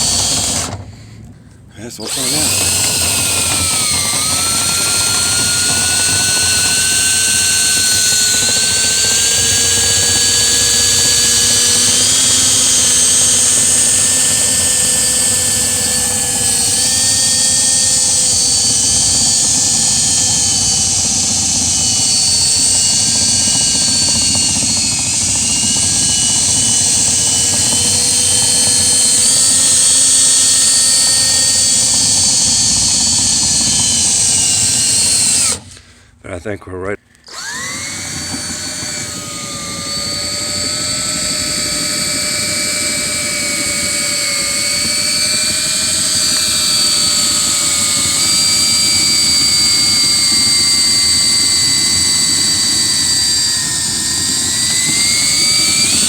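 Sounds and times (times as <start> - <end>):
power drill whining: 0.0 - 36.0, 37.1 - 56.0.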